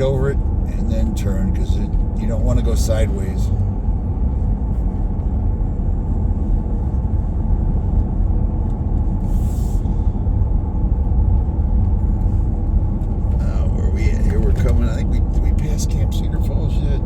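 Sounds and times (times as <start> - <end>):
vehicle road rumble: 0.0 - 17.0.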